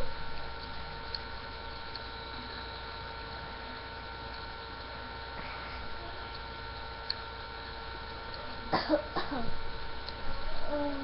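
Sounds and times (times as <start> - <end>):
electrical hum: 0.0 - 11.0
faint steady tones: 0.0 - 11.0.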